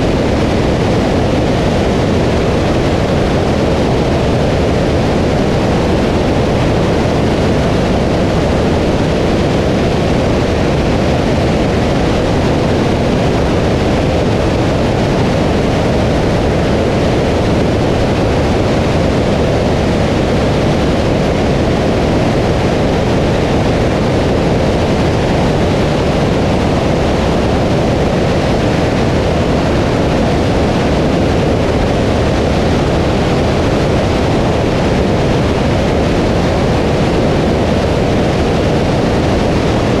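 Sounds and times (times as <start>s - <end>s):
aircraft engine drone: 0.0s - 40.0s
airflow rushing over camera: 0.0s - 40.0s.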